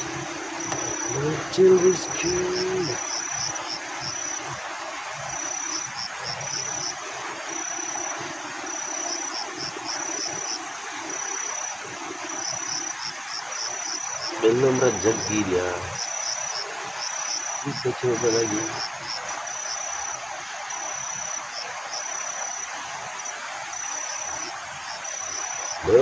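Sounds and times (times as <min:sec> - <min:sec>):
cricket-like insect calling: 0:00.0 - 0:04.6, 0:05.2 - 0:26.0
background hiss: 0:00.0 - 0:26.0.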